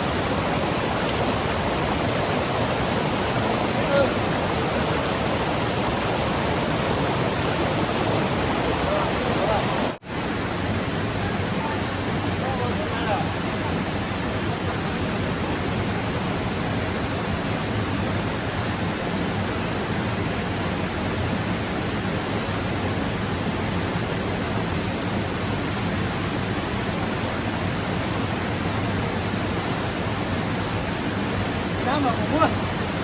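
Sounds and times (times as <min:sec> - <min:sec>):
stream water rushing: 0:00.0 - 0:33.0.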